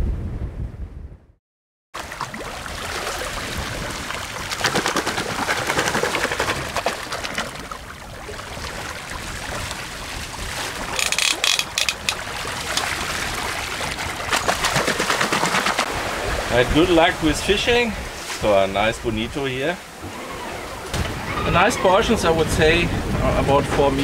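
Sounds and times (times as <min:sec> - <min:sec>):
wind: 0:00.0 - 0:01.3, 0:02.0 - 0:24.0
water: 0:02.0 - 0:24.0.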